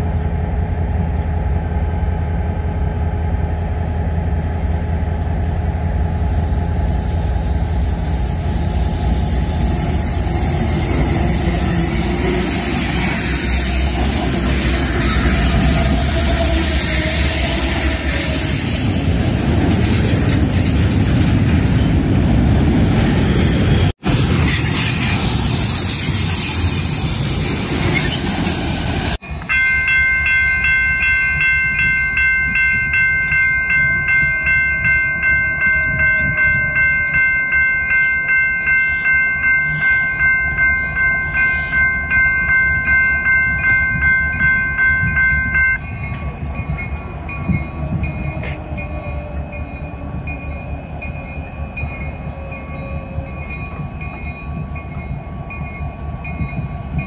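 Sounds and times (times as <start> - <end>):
distant diesel locomotives rumbling: 0.0 - 57.0
freight train rushing past: 0.0 - 57.0
railroad crossing bell ringing: 1.6 - 23.8, 26.2 - 57.0.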